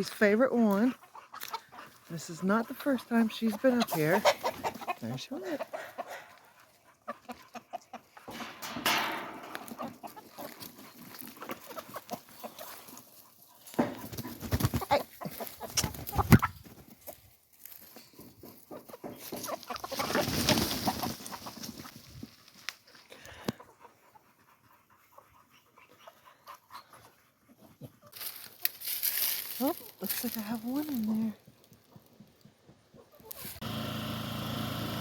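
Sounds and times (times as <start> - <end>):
chickens clucking: 0.0 - 33.7.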